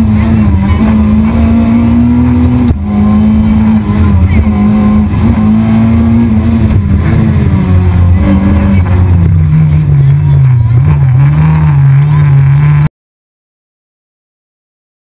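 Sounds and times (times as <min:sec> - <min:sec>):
car engine running hard: 0:00.0 - 0:12.9.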